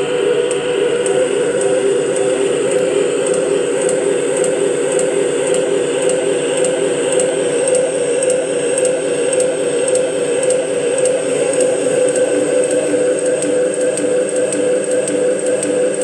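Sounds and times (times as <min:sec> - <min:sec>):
processed tape drone: 0:00.0 - 0:16.0
faint regular ticking: 0:00.4 - 0:16.0.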